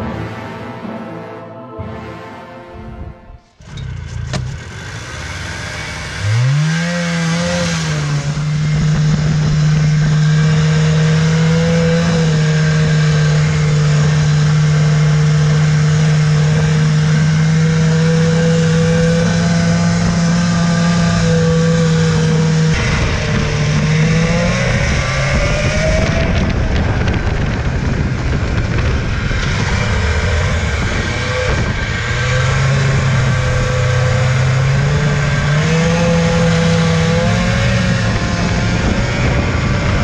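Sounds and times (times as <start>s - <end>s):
snowmobile engine revving: 1.8s - 40.0s.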